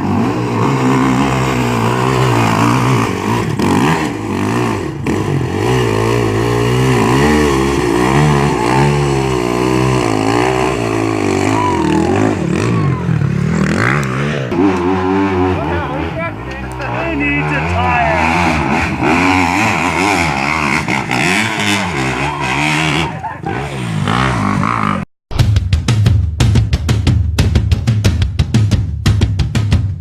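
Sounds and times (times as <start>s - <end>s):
dirt bike engine revving: 0.0s - 25.1s.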